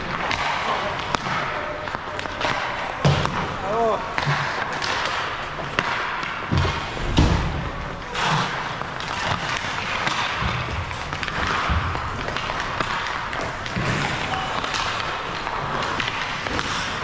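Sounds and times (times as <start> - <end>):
skate blades scraping ice: 0.0 - 17.0
sticks and pucks clacking: 0.0 - 17.0.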